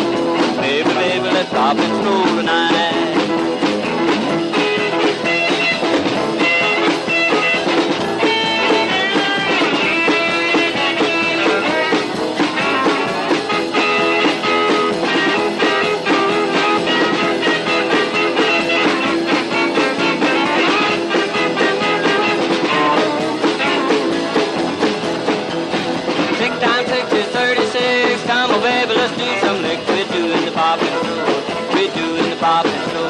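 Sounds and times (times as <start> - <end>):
rock and roll guitar: 0.0 - 33.0.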